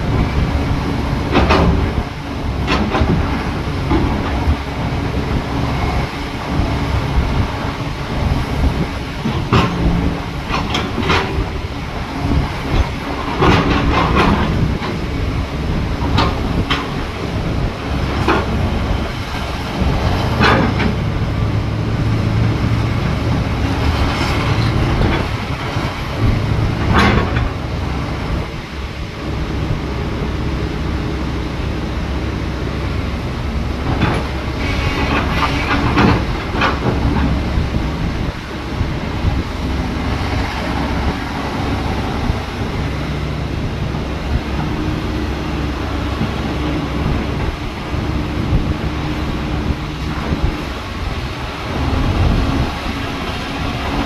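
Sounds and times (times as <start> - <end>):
excavator diesel engine: 0.0 - 54.0
metallic clanks from tracks: 1.2 - 30.0, 33.7 - 54.0.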